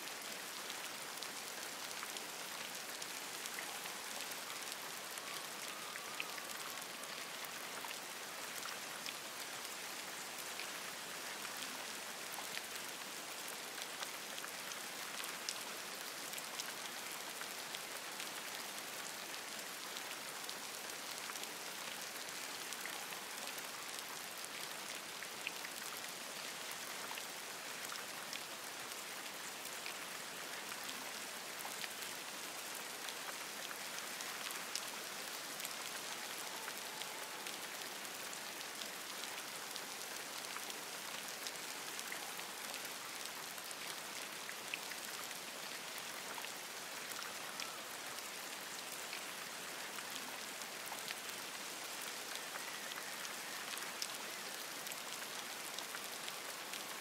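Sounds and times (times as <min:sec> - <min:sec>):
rain falling on leaves: 0:00.0 - 0:57.0.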